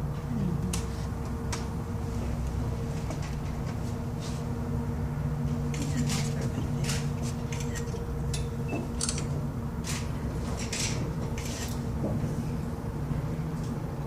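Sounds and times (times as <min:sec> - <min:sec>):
cable car cabin hum: 0:00.0 - 0:14.0.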